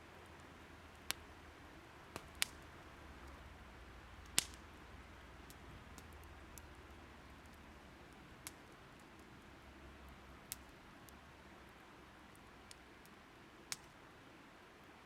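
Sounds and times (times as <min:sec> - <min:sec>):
faint steady hiss: 0:00.0 - 0:15.0
wood fire crackling and popping: 0:00.1 - 0:01.4, 0:02.1 - 0:04.8, 0:05.4 - 0:14.0.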